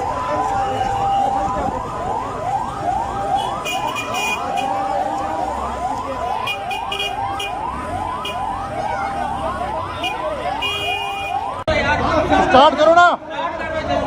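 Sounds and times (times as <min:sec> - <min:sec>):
siren yelping: 0:00.0 - 0:11.7.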